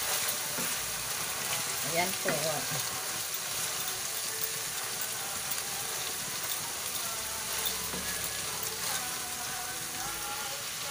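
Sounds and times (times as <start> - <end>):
food sizzling in a frying pan: 0.0 - 10.9
spatula stirring greens: 0.0 - 10.9.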